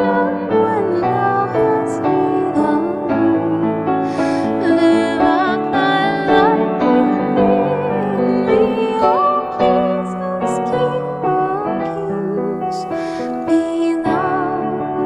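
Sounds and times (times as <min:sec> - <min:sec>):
gentle piano accompaniment: 0:00.0 - 0:15.0
person singing with vibrato: 0:00.0 - 0:15.0.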